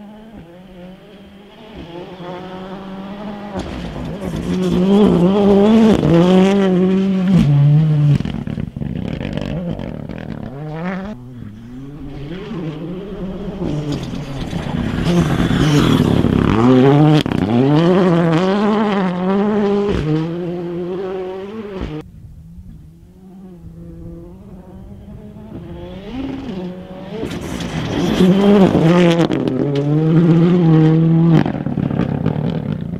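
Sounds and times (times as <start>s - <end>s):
rally car engine revving: 0.0s - 32.9s.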